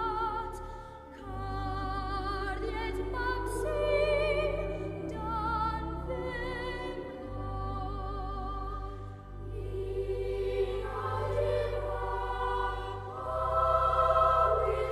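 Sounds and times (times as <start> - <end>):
opera-style choral singing: 0.0 - 14.9.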